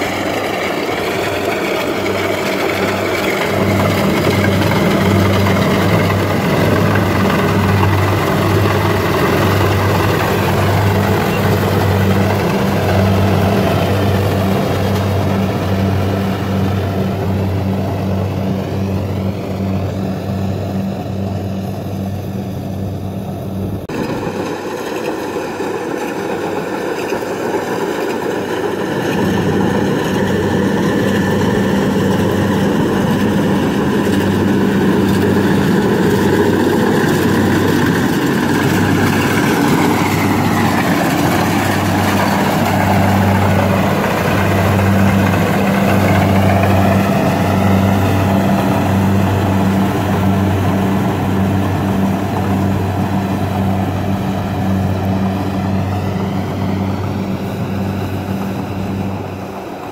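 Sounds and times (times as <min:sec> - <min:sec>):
combine harvester diesel engine drone: 0:00.0 - 0:59.9.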